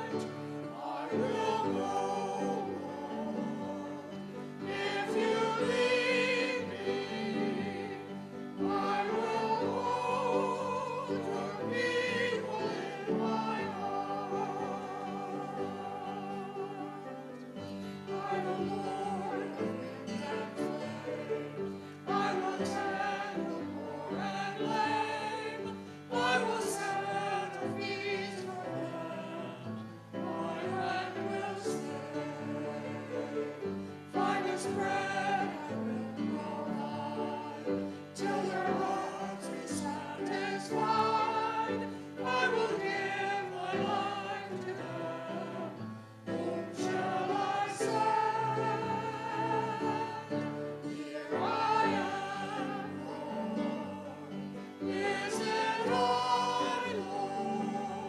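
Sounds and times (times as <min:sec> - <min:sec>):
group singing a hymn: 0:00.0 - 0:58.0.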